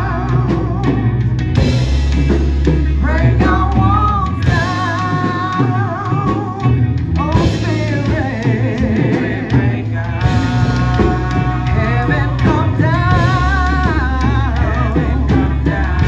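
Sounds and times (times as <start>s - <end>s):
band with bass and drums: 0.0s - 16.0s.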